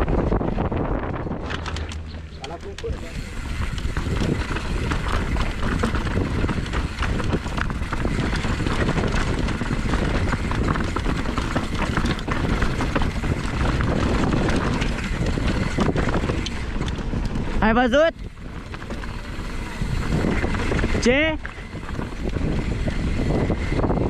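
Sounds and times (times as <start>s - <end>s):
bike rattling: 0.0s - 24.0s
bike tyres on rough trail: 0.0s - 24.0s
wind rumble on microphone: 0.0s - 24.0s.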